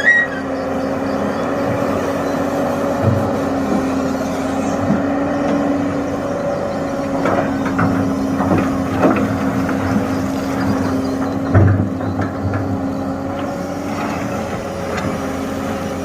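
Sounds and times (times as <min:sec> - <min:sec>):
excavator engine humming: 0:00.0 - 0:16.0.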